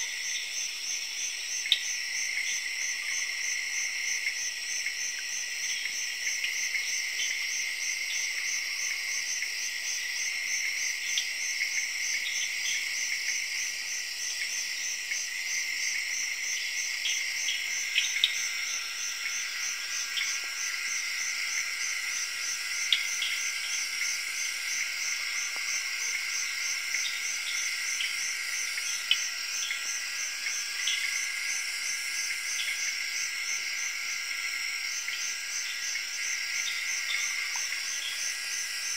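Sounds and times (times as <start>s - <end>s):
pulsing high insect trill: 0.0s - 38.9s
shrill insect drone: 0.0s - 38.9s.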